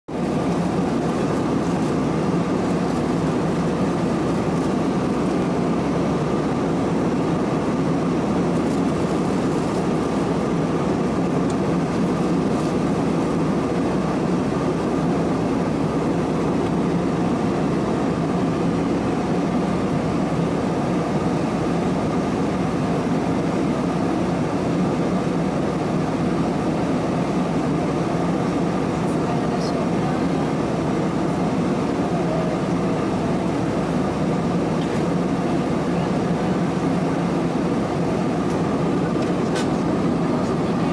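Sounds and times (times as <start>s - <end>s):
jet engines droning: 0.1s - 40.9s.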